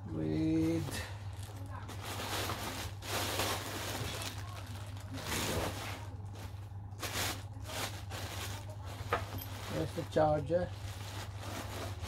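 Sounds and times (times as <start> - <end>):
plastic wrapping crinkling: 0.6 - 12.0.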